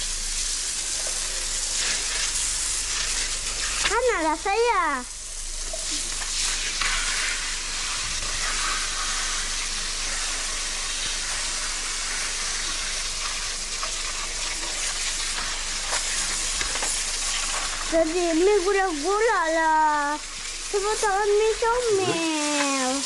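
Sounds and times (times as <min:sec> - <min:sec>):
hose spraying water: 0:00.0 - 0:23.0.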